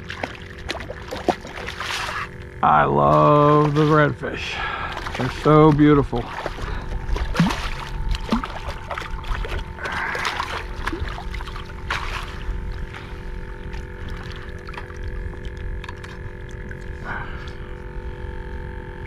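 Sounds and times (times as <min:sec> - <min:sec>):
fish splashing in water: 0:00.0 - 0:02.6, 0:03.2 - 0:17.4.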